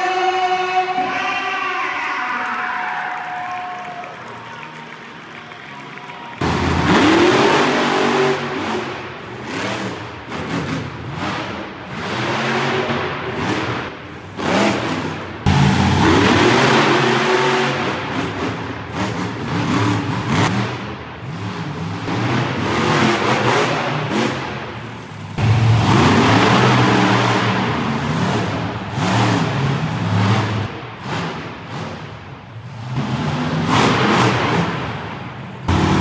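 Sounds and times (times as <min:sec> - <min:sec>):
monster truck engines revving: 0:00.0 - 0:36.0.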